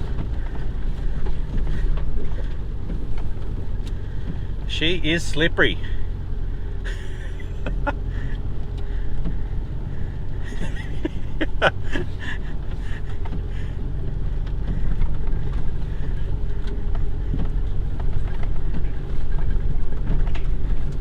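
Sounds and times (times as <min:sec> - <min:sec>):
vehicle engine under load: 0:00.0 - 0:21.0.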